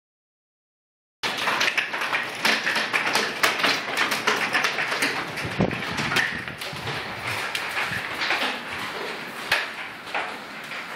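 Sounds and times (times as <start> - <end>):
hailstones pelting house: 1.2 - 10.9.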